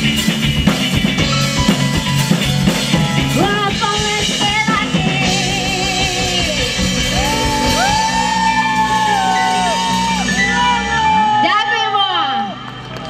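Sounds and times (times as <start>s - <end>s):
guitar lead melody with vibrato: 0.0s - 11.0s
rock band playing: 0.0s - 13.0s.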